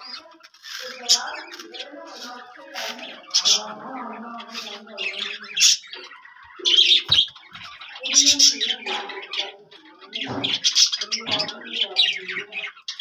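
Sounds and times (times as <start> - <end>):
pigeons chirping and squawking: 0.0 - 13.0.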